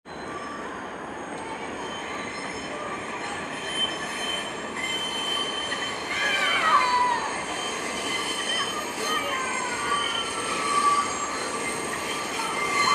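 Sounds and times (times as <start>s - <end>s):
high wheel squeal: 0.1s - 12.9s
subway train wheels rumbling: 0.1s - 12.9s.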